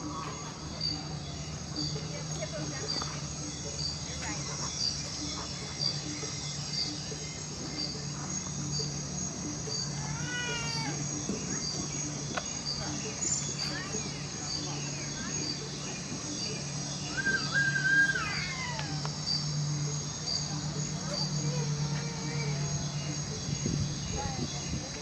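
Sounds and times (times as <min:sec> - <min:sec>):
insects chirping: 0:00.0 - 0:25.0
steady high hiss: 0:00.0 - 0:25.0.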